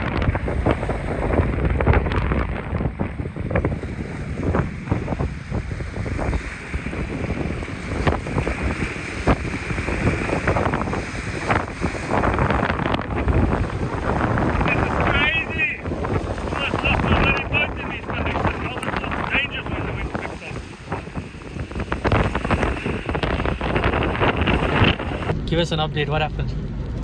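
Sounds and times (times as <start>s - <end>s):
strong gusty wind on microphone: 0.0s - 27.0s
waves washing against shore: 0.0s - 27.0s.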